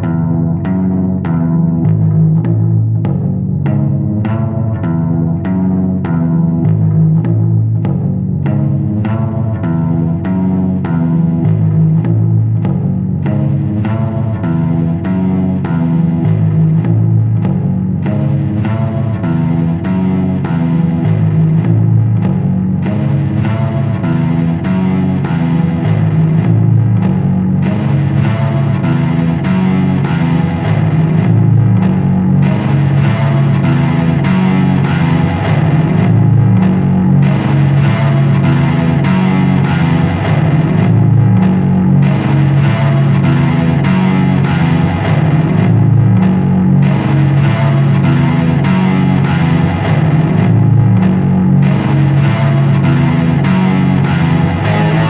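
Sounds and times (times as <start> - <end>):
distorted electric guitar riff: 0.0 - 55.0.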